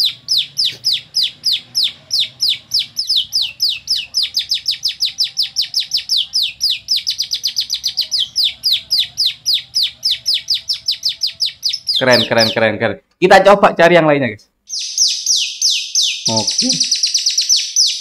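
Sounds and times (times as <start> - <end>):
lovebird singing: 0.0 - 12.8, 14.7 - 18.0.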